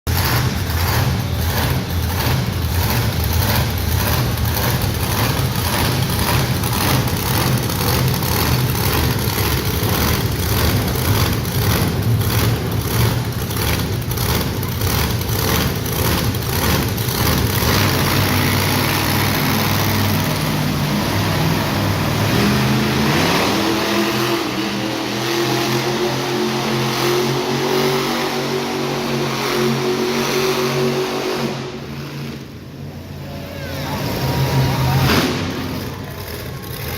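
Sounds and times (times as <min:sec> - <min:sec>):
monster truck engine revving: 0:00.1 - 0:36.9.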